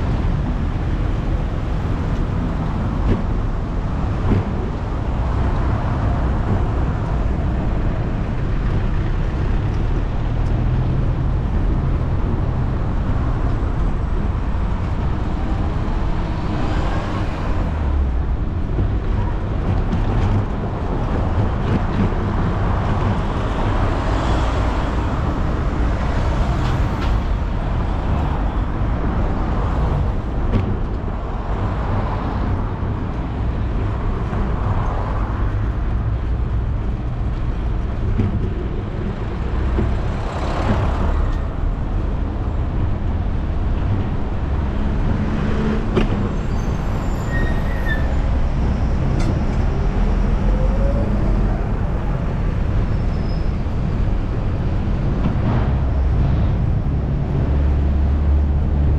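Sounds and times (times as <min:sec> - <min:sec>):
car traffic passing: 0:00.0 - 0:58.9
wind noise on microphone: 0:00.0 - 0:58.9.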